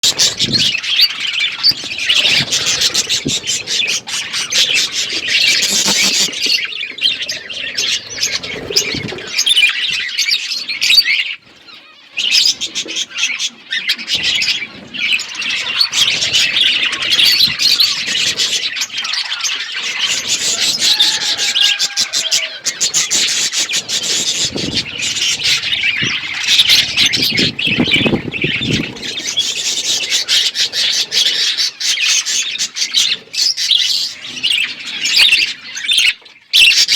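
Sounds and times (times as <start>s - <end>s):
budgerigars chattering and chirping: 0.1s - 36.9s.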